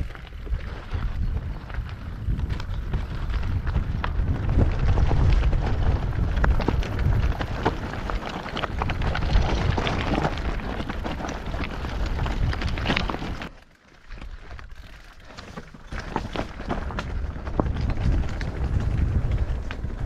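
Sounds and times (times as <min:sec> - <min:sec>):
wind rumble on microphone: 0:00.0 - 0:13.5, 0:16.0 - 0:20.0
bike tyres rattling over stones: 0:00.0 - 0:20.0.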